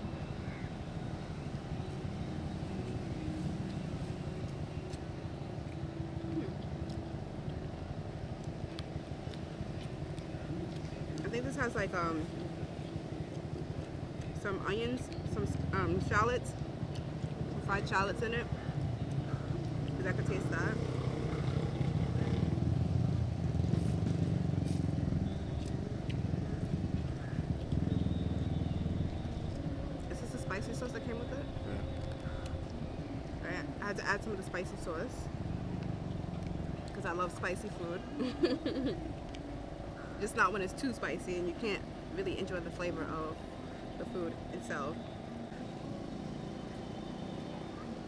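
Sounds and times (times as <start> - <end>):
low rumble and hum: 0.0 - 48.0.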